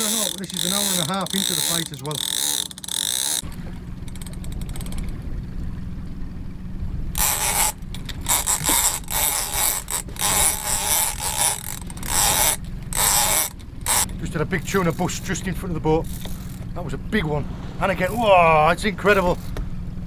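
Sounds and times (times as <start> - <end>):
steady low rumble: 3.4 - 20.0.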